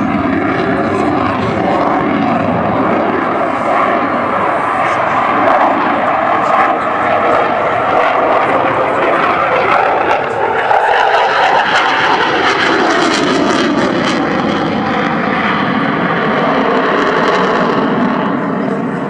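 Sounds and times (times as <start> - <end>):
jet engine rushing: 0.0 - 19.0
jet whine dropping in pitch: 0.0 - 19.0.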